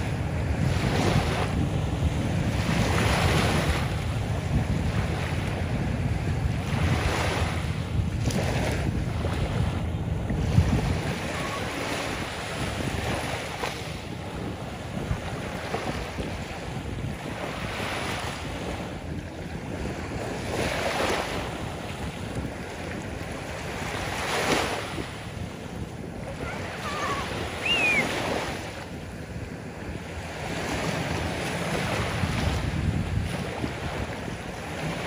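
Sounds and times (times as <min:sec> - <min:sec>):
small waves breaking on shore: 0:00.0 - 0:35.0
wind rumbling on microphone: 0:00.0 - 0:35.0.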